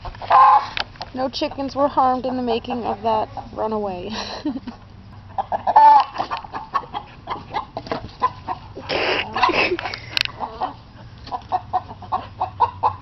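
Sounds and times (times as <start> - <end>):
hens clucking and squawking: 0.0 - 1.7, 2.3 - 13.0.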